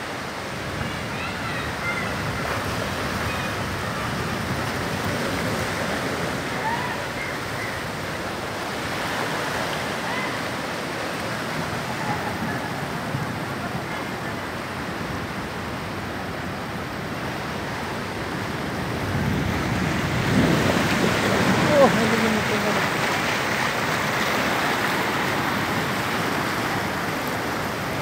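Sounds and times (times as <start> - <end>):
seawater rushing over ground: 0.0 - 28.0.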